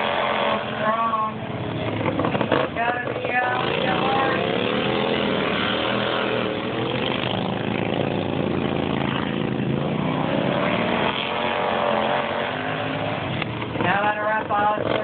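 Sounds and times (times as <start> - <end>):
racing lawnmower engines: 0.0 - 15.0.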